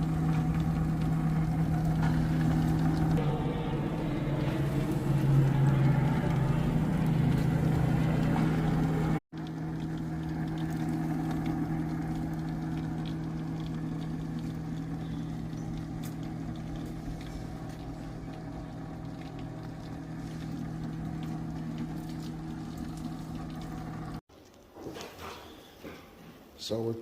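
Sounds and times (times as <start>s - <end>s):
electric pump humming: 0.0s - 24.2s.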